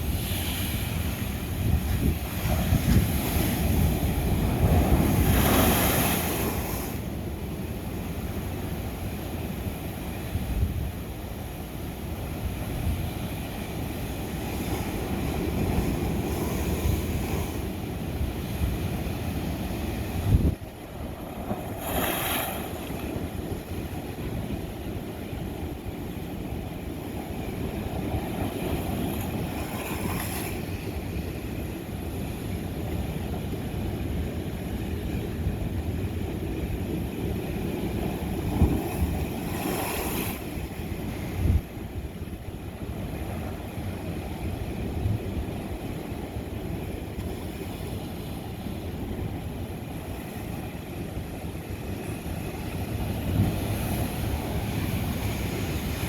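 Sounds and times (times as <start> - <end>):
ocean waves breaking on rock: 0.0 - 32.4, 33.0 - 56.0
wind rumble on microphone: 0.0 - 56.0.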